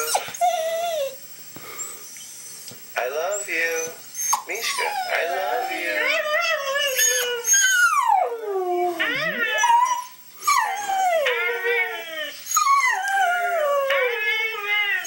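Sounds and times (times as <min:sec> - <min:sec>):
dog howling: 0:00.0 - 0:01.2, 0:03.3 - 0:15.0.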